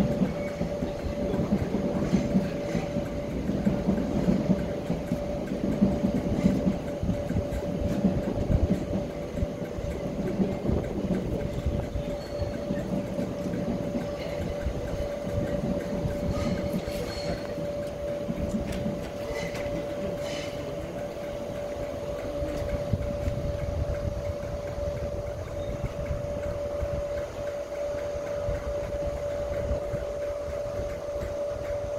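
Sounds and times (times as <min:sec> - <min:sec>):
electric train humming: 0:00.0 - 0:31.9.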